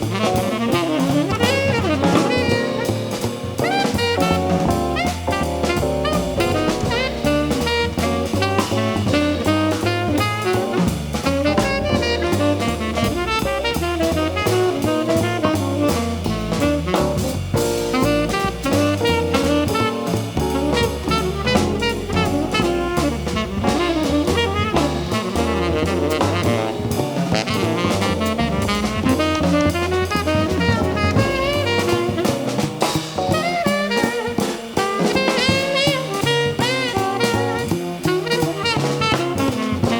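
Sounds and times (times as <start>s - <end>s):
drum kit: 0.0s - 39.9s
horn melody: 0.0s - 39.9s
jazz band playing: 0.0s - 39.9s.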